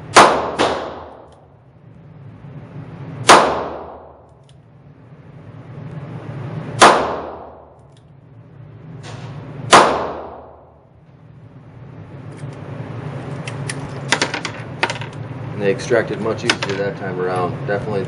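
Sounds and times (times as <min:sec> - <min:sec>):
revolver shots echoing indoors: 0:00.0 - 0:15.4.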